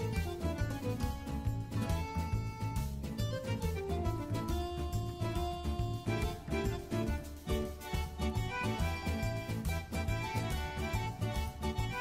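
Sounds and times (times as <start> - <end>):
background music with quick bass beat: 0.0 - 12.0.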